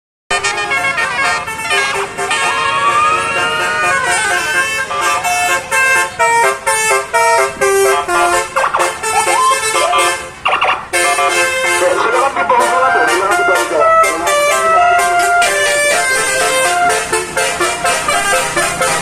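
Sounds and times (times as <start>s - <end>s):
musical air horns playing melody: 0.3s - 19.0s.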